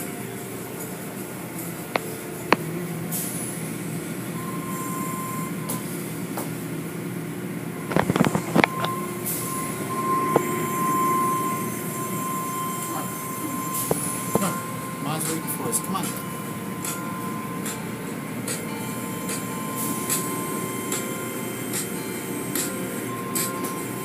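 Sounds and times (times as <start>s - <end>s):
car wash water spray and machinery: 0.0s - 24.0s
steady high whine: 0.0s - 24.0s.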